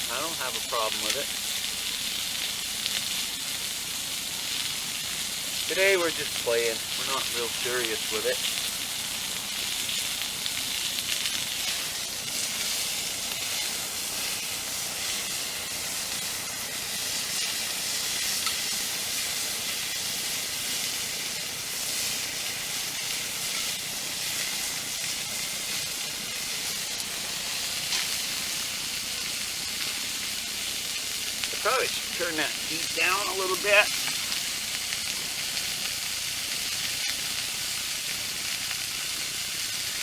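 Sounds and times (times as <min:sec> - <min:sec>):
steak sizzling in a frying pan: 0:00.0 - 0:40.0.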